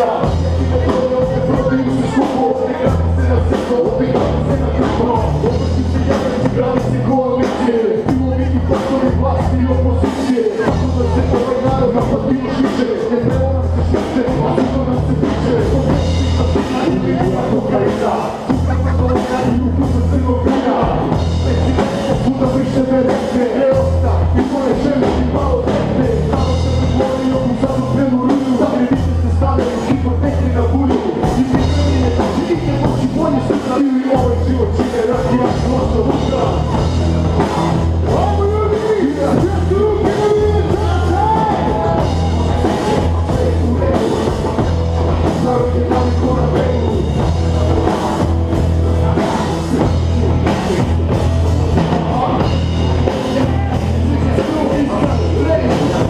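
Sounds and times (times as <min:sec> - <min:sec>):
bass guitar: 0:00.0 - 0:56.0
drum kit: 0:00.0 - 0:56.0
vocals over microphone: 0:00.0 - 0:56.0.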